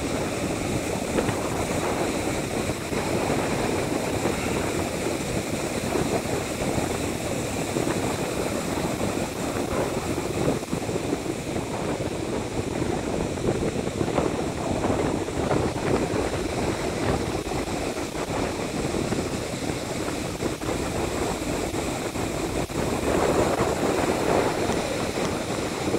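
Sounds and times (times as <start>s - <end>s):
ocean surf breaking on beach: 0.0s - 25.9s.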